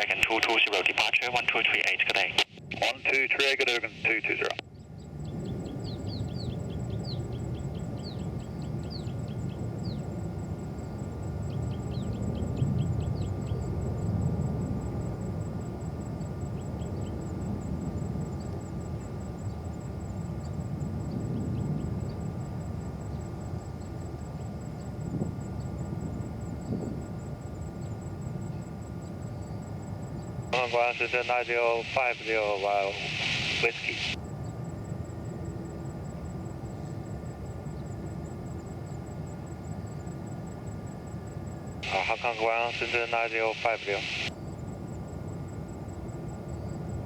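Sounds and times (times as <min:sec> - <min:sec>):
distant jet aircraft rumble: 0:00.0 - 0:47.0.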